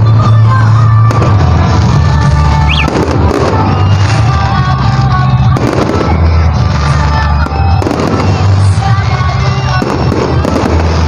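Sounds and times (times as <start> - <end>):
fireworks bursting and crackling: 0.0 - 11.0
loud music: 0.0 - 11.0.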